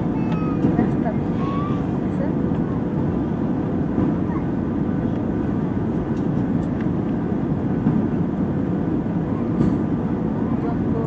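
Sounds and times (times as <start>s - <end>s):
airliner cabin engine noise: 0.0s - 11.0s.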